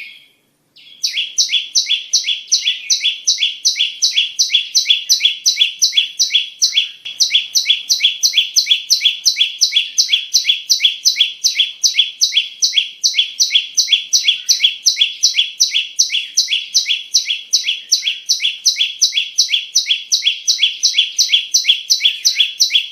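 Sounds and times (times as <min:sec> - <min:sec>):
bird chirping rapidly: 0:00.0 - 0:22.9.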